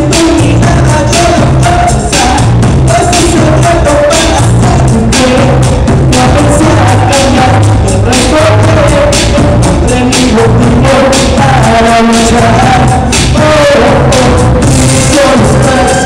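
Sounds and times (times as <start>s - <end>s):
band backing track: 0.0s - 16.0s
person singing: 0.0s - 16.0s
steady drum beat: 0.0s - 16.0s.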